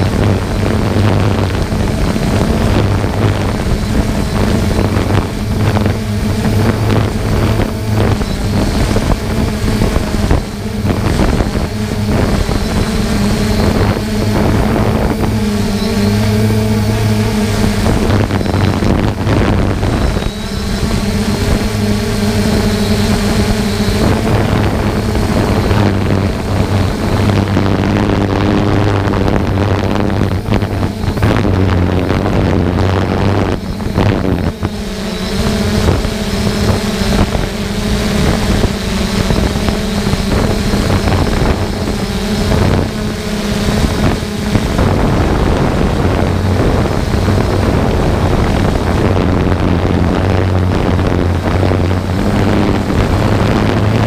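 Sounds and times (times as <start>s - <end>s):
drone propellers humming: 0.0s - 54.0s
wind buffeting microphone: 0.0s - 54.0s.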